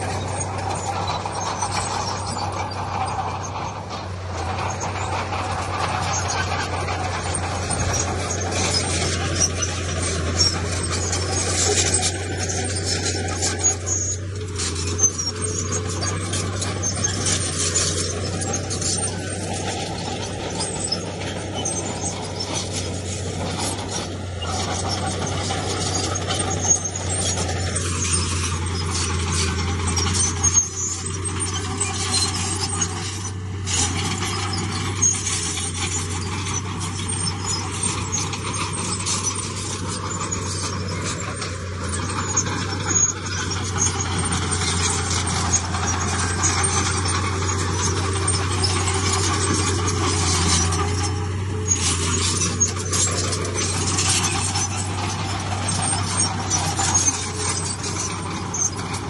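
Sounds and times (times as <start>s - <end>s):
heavy diesel machinery droning: 0.0s - 59.0s
metallic squealing and clanking: 0.0s - 59.0s.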